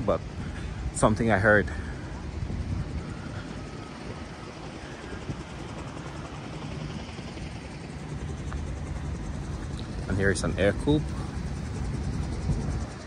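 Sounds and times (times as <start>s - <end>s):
distant aircraft engine drone: 0.0s - 13.0s
outdoor background noise: 0.0s - 13.0s.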